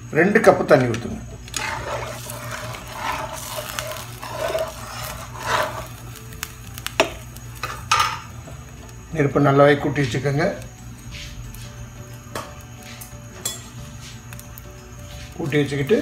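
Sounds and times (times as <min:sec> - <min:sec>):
gas stove hum: 0:00.0 - 0:16.0
soft cooking noises: 0:00.0 - 0:16.0.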